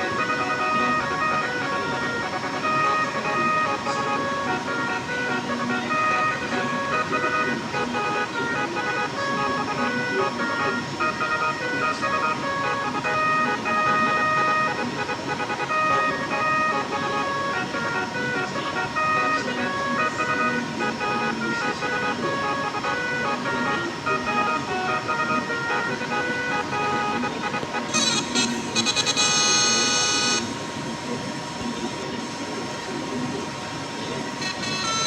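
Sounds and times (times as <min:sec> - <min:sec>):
musical horn playing a tune: 0:00.0 - 0:30.6
steady underlying tone: 0:00.0 - 0:35.0.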